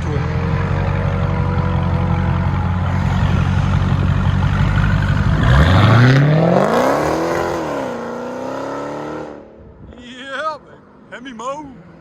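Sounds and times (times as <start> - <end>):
car engine idling and revving: 0.0 - 9.8.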